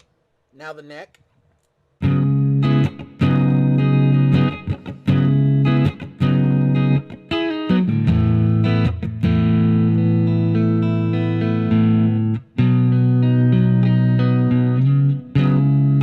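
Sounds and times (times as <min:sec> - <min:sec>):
clean electric guitar chords strummed: 0:02.0 - 0:16.0.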